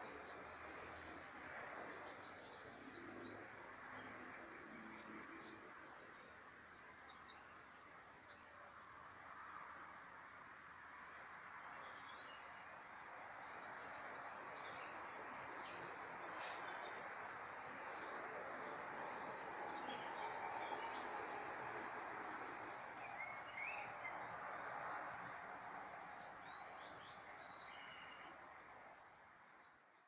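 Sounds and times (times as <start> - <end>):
background hiss: 0.0 - 29.4.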